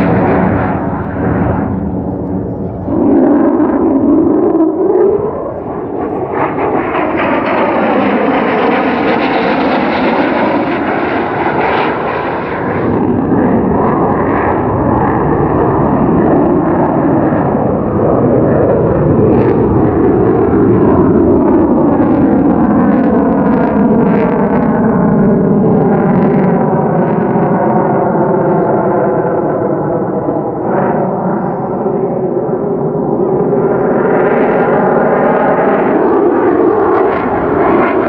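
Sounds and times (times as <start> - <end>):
jet engine roaring overhead: 0.0 - 38.0.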